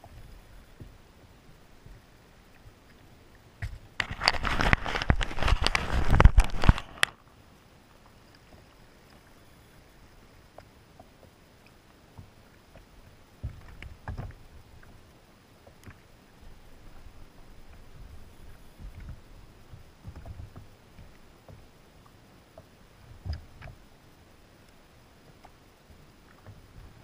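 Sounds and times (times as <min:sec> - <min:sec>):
water splashing against kayak: 0:00.0 - 0:27.0.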